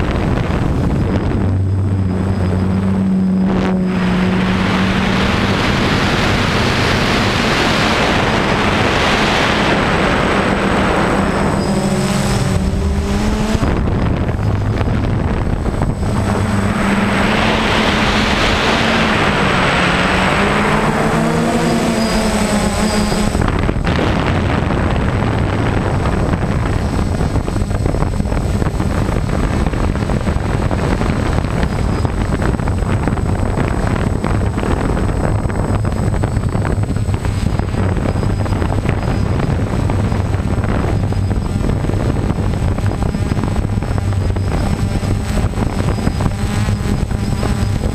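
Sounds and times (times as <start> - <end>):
drone propellers buzzing: 0.0 - 47.9
wind rush: 0.0 - 47.9.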